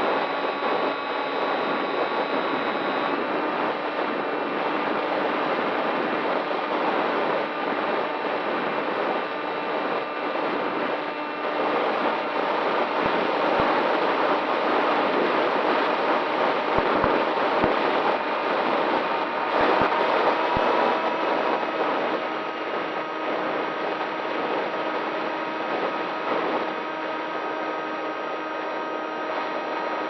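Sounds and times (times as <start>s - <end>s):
rushing air: 0.1s - 29.7s.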